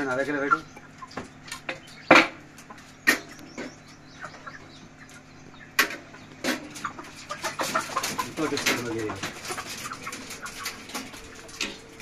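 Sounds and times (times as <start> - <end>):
chicken clucking: 0.0 - 12.0.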